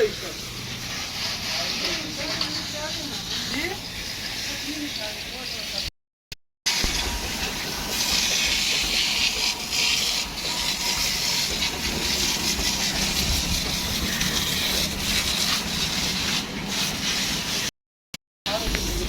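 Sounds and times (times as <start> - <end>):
high-pressure water jet spraying: 0.0 - 5.9, 6.7 - 17.7, 18.5 - 19.0.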